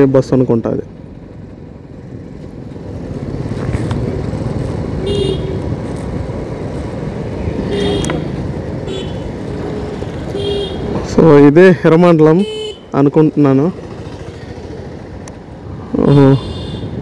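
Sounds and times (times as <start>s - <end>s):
motorcycle engine: 0.8s - 11.5s, 12.4s - 17.0s.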